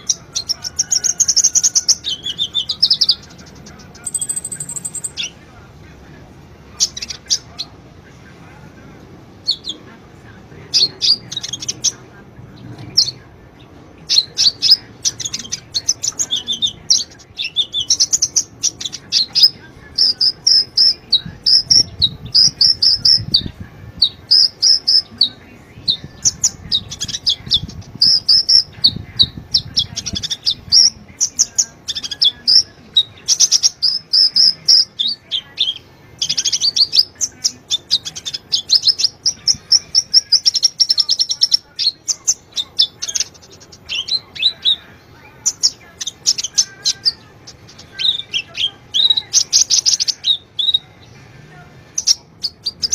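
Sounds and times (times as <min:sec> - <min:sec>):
bird chirps and trills: 0:00.0 - 0:05.4, 0:10.6 - 0:51.3, 0:51.9 - 0:52.9.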